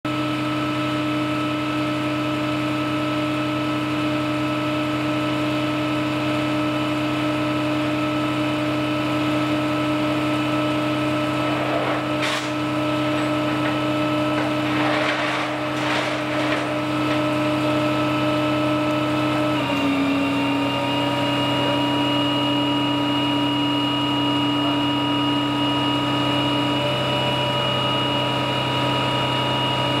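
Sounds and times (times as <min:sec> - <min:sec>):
truck engine whining: 0:00.5 - 0:30.0.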